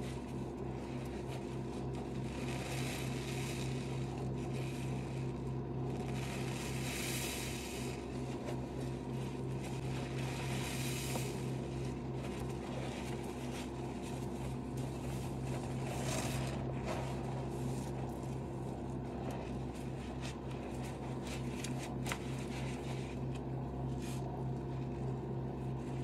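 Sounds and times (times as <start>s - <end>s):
steady low hum: 0.0s - 26.0s
sponges squelching in suds: 0.1s - 23.4s.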